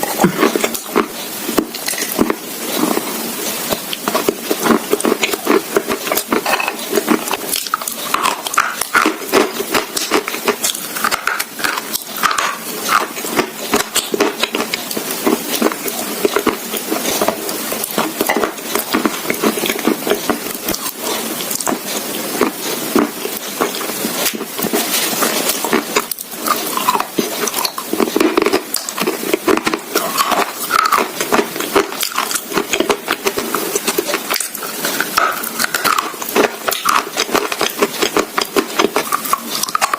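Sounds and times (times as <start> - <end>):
crunching and chewing clay: 0.0 - 39.9.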